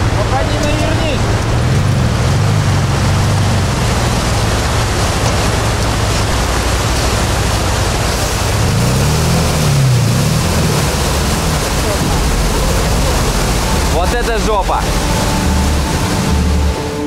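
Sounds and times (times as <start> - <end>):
buggy engine revving: 0.0 - 17.0
river rapids rushing: 0.0 - 17.0.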